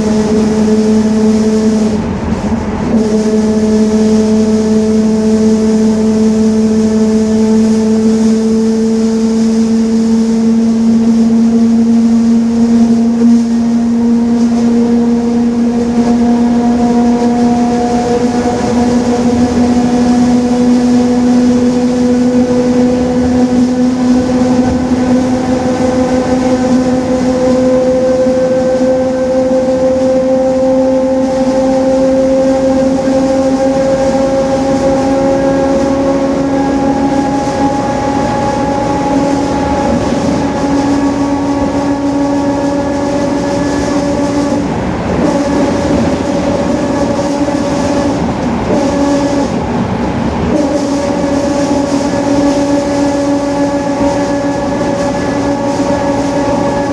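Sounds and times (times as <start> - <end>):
bus gear whine: 0.0 - 56.9.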